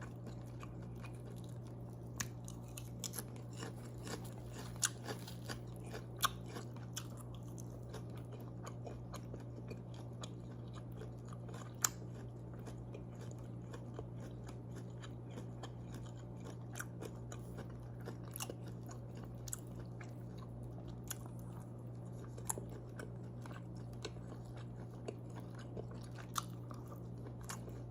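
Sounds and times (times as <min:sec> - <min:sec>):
person chewing and crunching food: 0:00.0 - 0:27.9
steady low hum: 0:00.0 - 0:27.9.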